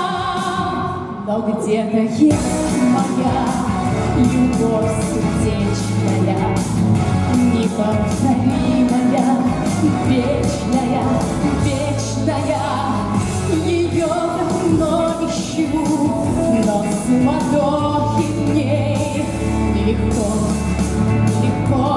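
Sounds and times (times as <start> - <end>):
woman singing pop ballad: 0.0 - 21.9
band accompaniment: 2.3 - 21.9.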